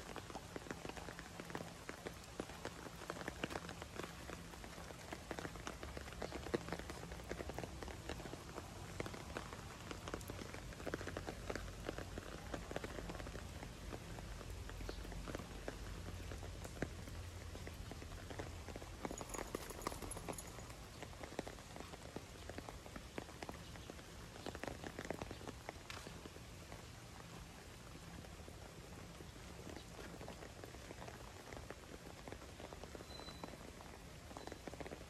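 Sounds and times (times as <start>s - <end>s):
rain on wet pavement: 0.0s - 35.0s.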